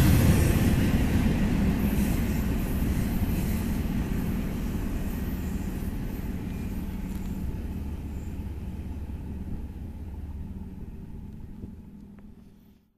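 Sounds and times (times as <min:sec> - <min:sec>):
freight train rumbling past: 0:00.0 - 0:12.7.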